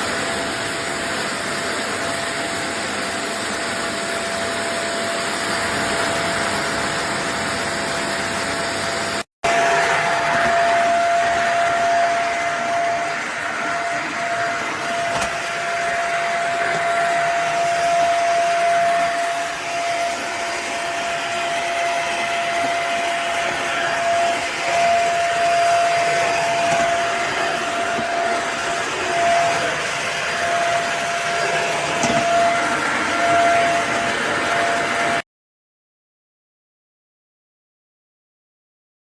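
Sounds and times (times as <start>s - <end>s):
vacuum cleaner running: 0.0s - 35.2s.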